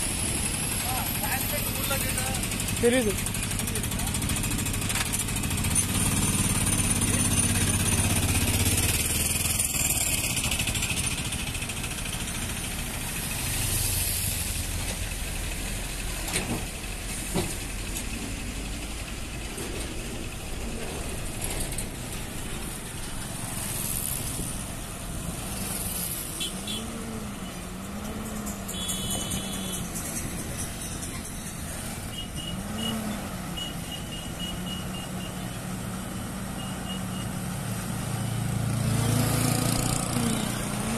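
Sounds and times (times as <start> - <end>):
motor scooter: 0.0 - 15.2, 19.6 - 40.9
lorry diesel engines: 0.0 - 40.9.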